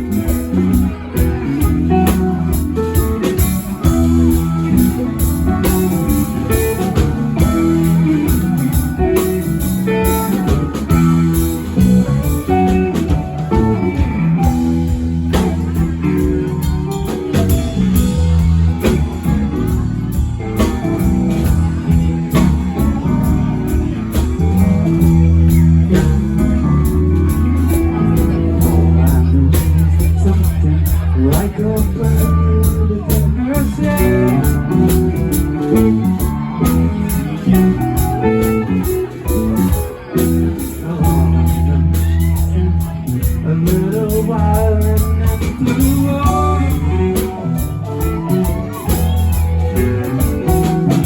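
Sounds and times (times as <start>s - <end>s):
bass line: 0.0s - 51.0s
drums: 0.0s - 51.0s
guitar: 0.0s - 51.0s.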